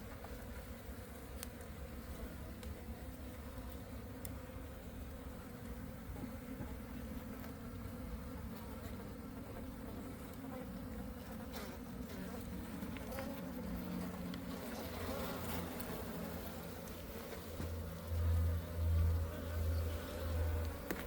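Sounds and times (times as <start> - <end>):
bees buzzing: 0.2 - 21.0.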